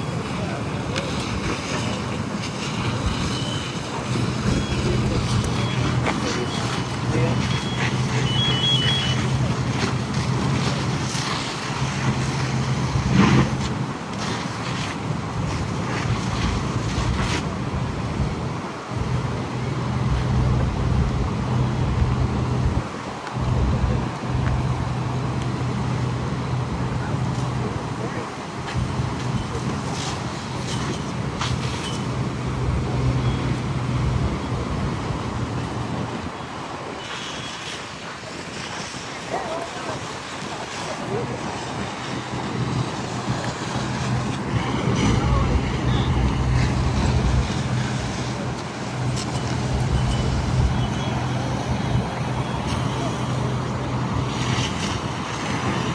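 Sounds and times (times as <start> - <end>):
vehicle engine humming: 0.0 - 36.4, 38.5 - 55.9
road traffic noise: 0.0 - 55.9
wind: 0.0 - 55.9.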